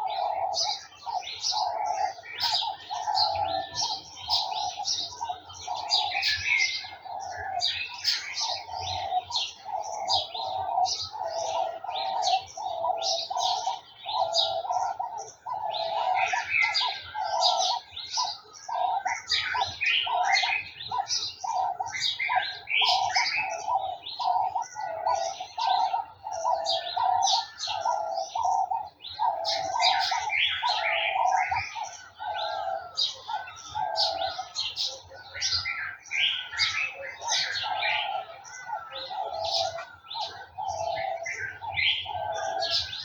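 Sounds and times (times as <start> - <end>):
birds chirping and twittering: 0.0 - 43.0.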